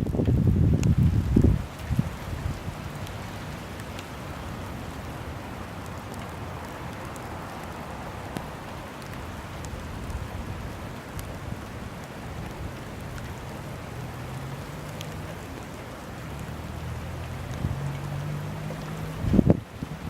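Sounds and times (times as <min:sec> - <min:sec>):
rain falling: 0:00.0 - 0:20.0
faint drip ticks: 0:00.1 - 0:20.0.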